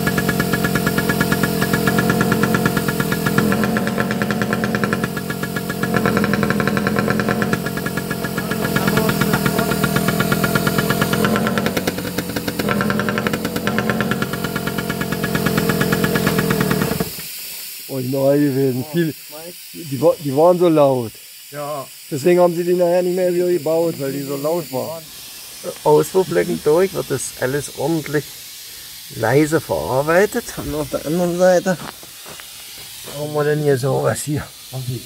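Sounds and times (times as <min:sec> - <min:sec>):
engine exhaust beat: 0:00.0 - 0:21.0, 0:22.1 - 0:35.0.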